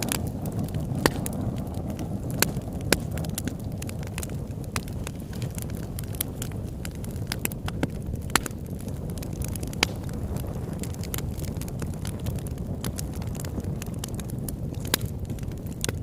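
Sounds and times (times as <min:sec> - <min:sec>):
burning wood popping: 0:00.0 - 0:16.0
campfire flames rumbling: 0:00.0 - 0:16.0.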